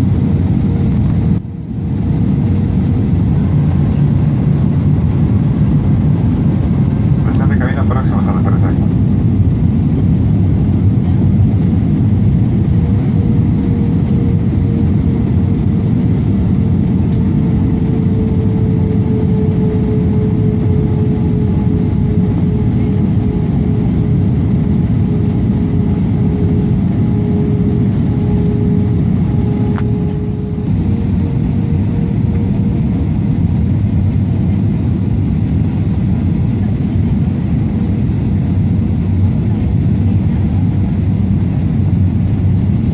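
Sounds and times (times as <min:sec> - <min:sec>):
small airplane engine drone: 0:00.0 - 0:42.9
steady hum: 0:00.0 - 0:42.9.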